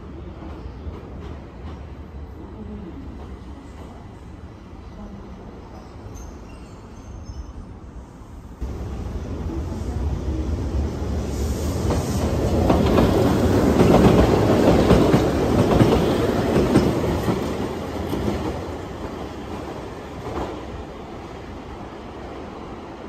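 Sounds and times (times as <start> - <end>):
light-rail train wheels clattering: 0.0 - 4.5, 8.6 - 23.0.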